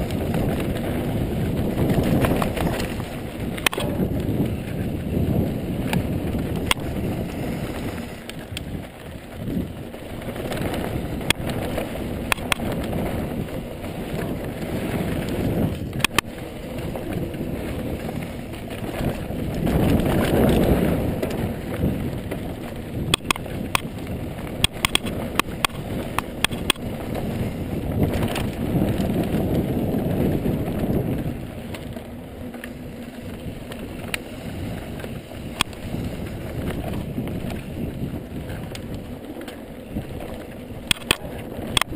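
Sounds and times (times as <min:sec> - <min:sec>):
bike rattling over bumps: 0:00.0 - 0:41.9
bike tyres rumbling on dirt: 0:00.0 - 0:41.9
wind on microphone: 0:00.0 - 0:41.9.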